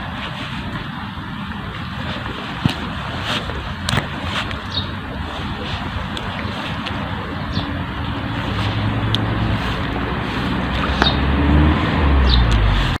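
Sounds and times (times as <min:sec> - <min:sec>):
stream rushing: 0:00.0 - 0:13.0
wind rumbling on microphone: 0:00.0 - 0:13.0.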